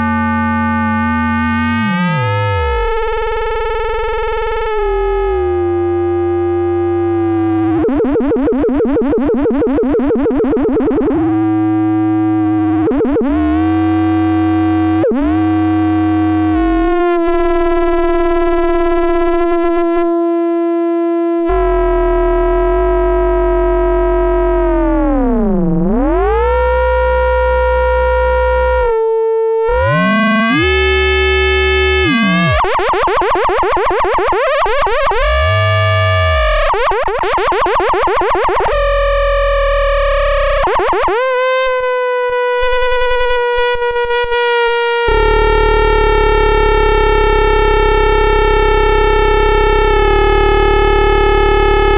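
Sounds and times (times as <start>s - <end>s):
synthesizer note with filter sweep: 0.0s - 51.9s.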